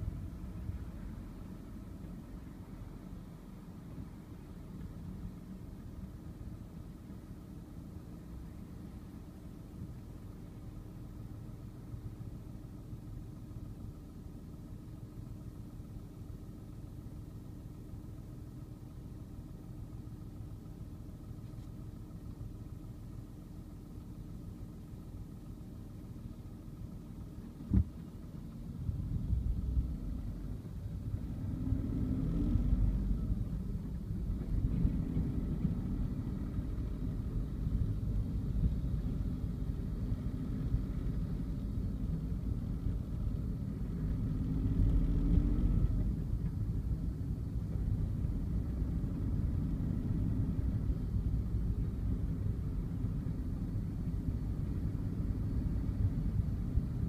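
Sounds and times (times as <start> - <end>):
car engine rumble: 0.0 - 57.0.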